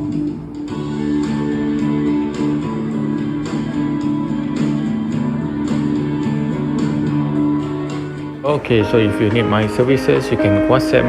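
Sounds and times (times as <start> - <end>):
guitar music with light beat: 0.0 - 11.0.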